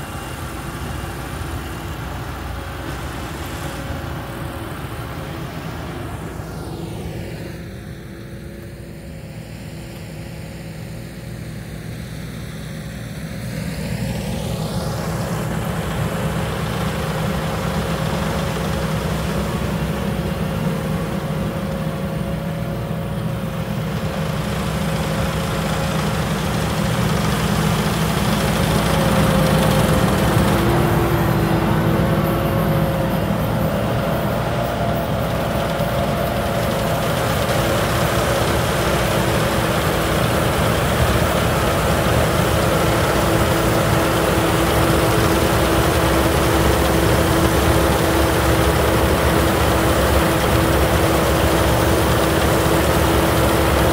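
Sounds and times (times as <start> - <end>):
diesel engine drone: 0.0 - 53.9
whining machinery: 0.0 - 53.9.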